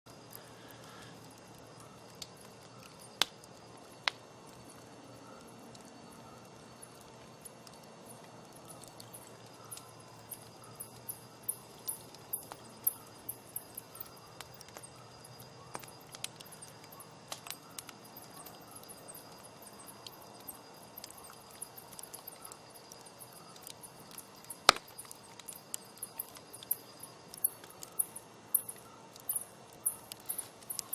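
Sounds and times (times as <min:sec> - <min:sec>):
campfire crackling: 0:00.1 - 0:30.9.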